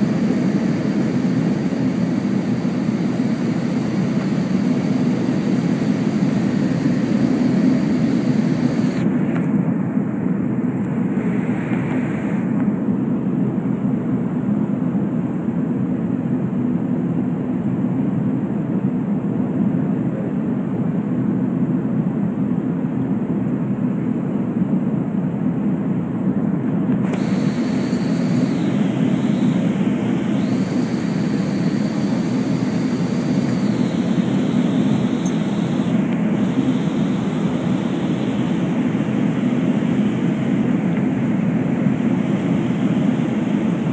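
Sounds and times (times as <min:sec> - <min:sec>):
airliner engines and airflow roar: 0:00.0 - 0:43.9.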